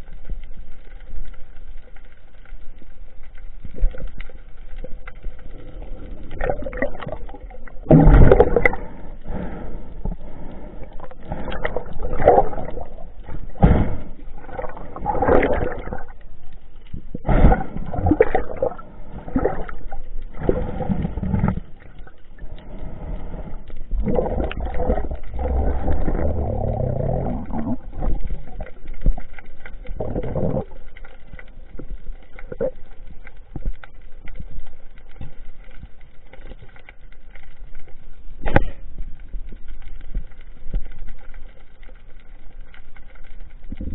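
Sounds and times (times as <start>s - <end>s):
muffled underwater water bubbling: 0.0s - 36.2s, 36.8s - 43.9s.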